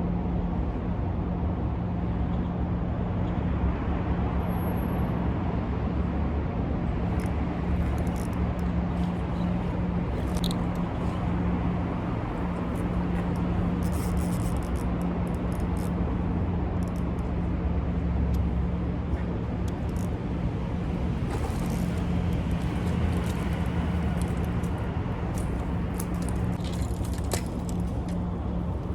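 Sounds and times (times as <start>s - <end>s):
low mechanical hum: 0.0s - 28.9s
outdoor noise: 0.0s - 28.9s.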